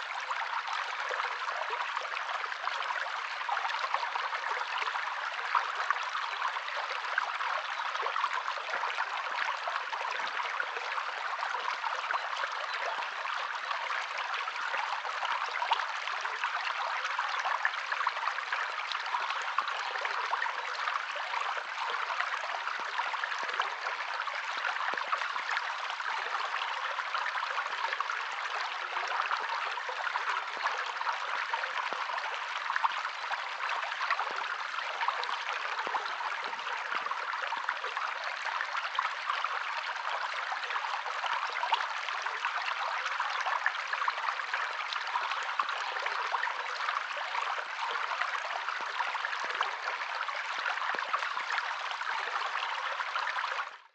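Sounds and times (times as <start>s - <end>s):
stream trickling over stones: 0.0s - 53.9s.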